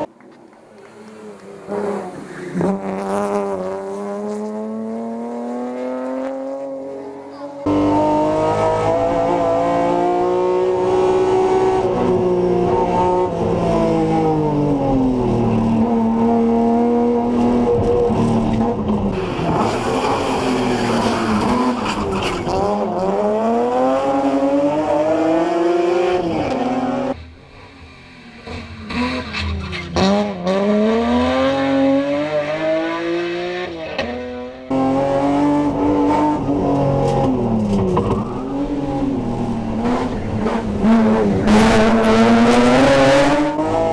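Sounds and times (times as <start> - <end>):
race car engine revving: 1.0 - 27.2, 27.8 - 43.9.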